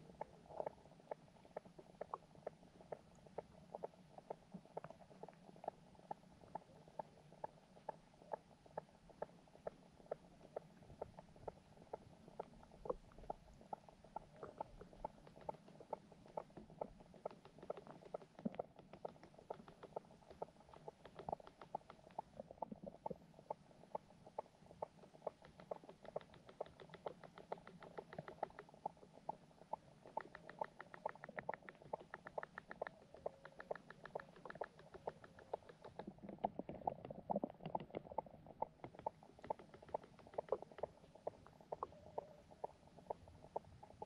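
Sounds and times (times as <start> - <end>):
underwater clicks and ticks: 0.0 - 44.0.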